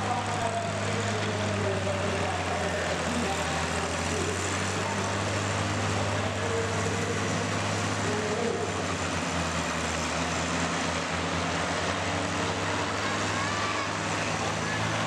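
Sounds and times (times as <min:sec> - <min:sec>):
combine harvester engines droning: 0:00.0 - 0:15.0.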